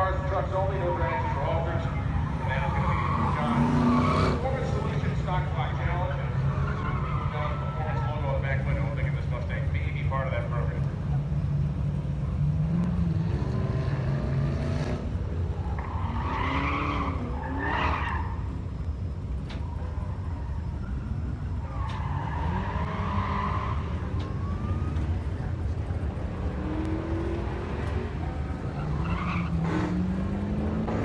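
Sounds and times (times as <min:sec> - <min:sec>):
car engine running hard: 0:00.0 - 0:31.0
tires squealing: 0:00.0 - 0:31.0.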